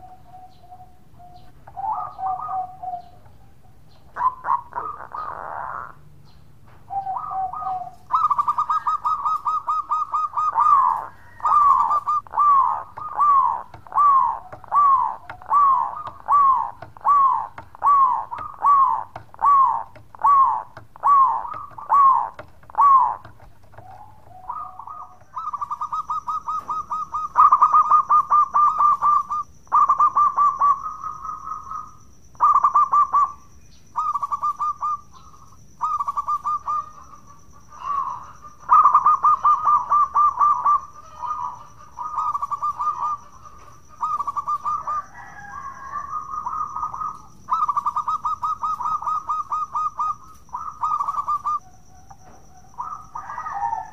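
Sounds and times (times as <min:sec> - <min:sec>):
dove trilling and cooing: 0:00.0 - 0:53.9.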